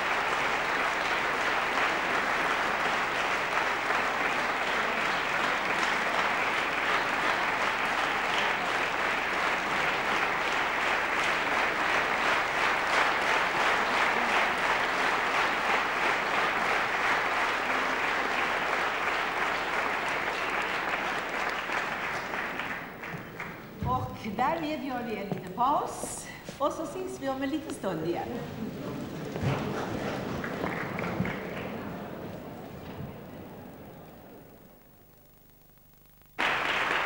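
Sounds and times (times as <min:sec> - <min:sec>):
audience applauding: 0:00.0 - 0:24.7, 0:27.6 - 0:34.8, 0:36.4 - 0:37.0.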